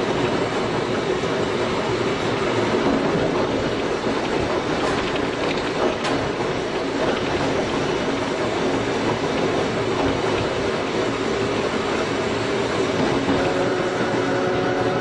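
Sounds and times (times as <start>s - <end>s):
wheel-on-rail rumble: 0.0s - 15.0s
electric train motor hum: 2.7s - 15.0s.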